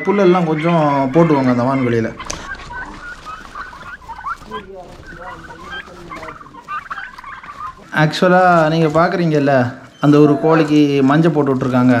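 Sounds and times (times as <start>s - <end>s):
turkeys calling: 0.0s - 12.0s.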